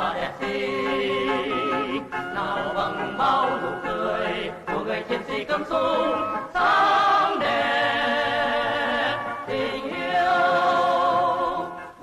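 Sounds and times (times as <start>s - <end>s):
male vocal ensemble singing: 0.0s - 11.8s.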